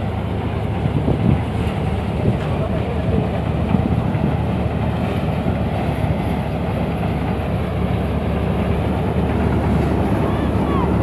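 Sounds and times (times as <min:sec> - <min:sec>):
paddy thresher mechanical drone: 0:00.0 - 0:11.0.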